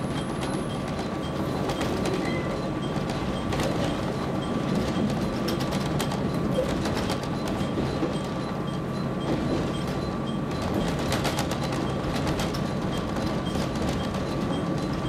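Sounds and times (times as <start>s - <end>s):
railcar engine and wheels rumbling: 0.0s - 15.0s.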